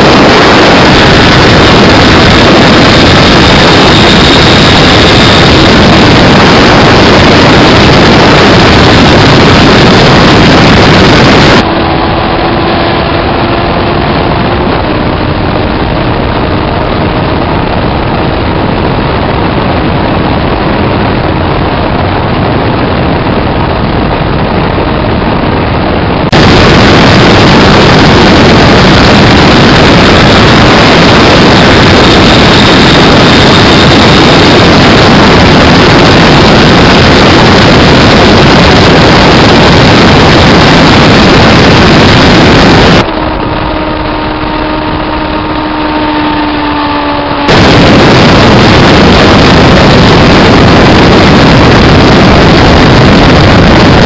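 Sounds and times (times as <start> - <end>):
loud motorcycle engine running: 0.0 - 54.0.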